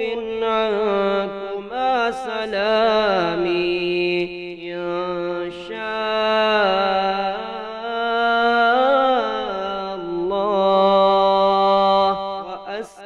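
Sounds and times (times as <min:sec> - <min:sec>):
person chanting melodically: 0:00.0 - 0:13.0.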